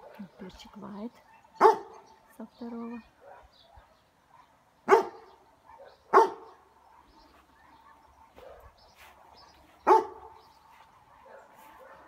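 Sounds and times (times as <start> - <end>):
dog barking: 1.2 - 2.2, 3.2 - 12.0.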